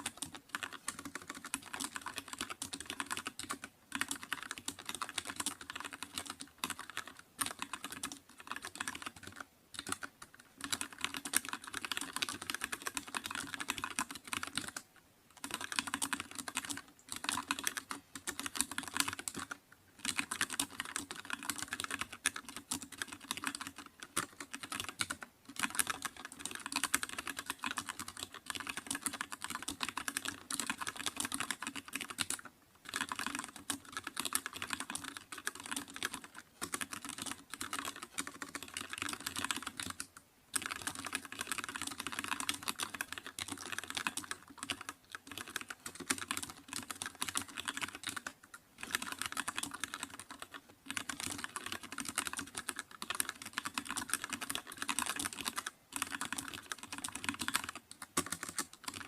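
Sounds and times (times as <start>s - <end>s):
typing on computer keyboard: 0.0s - 59.0s.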